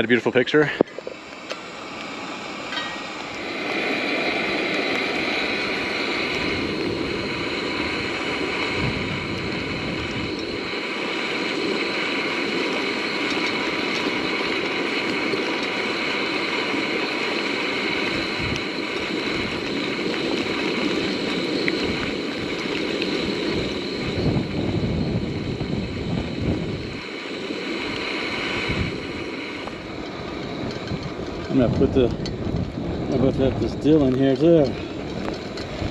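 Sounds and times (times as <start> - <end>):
wind gusting on microphone: 0.0 - 35.9
rain and hail falling: 0.6 - 35.9.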